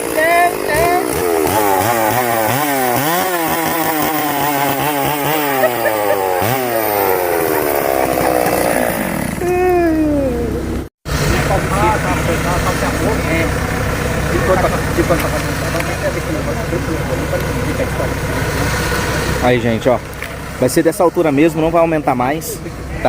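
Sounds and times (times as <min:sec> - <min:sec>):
chainsaw engine revving: 0:00.0 - 0:21.5.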